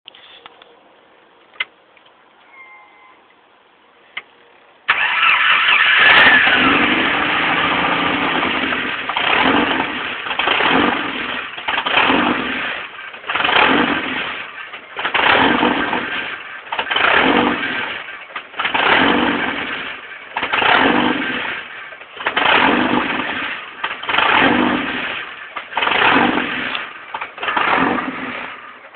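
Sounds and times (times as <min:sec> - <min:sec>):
car engine starting and surging: 0:04.9 - 0:28.9.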